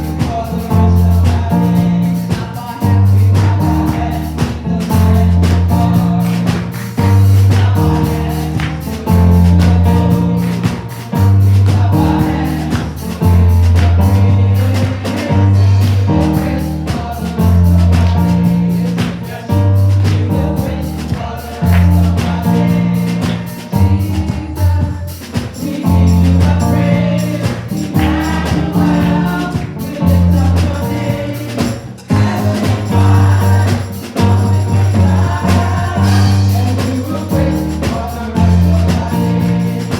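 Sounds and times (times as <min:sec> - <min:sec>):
band with heavy bass line: 0:00.0 - 0:39.9
gospel choir singing: 0:00.0 - 0:39.9
tambourine: 0:00.0 - 0:39.9.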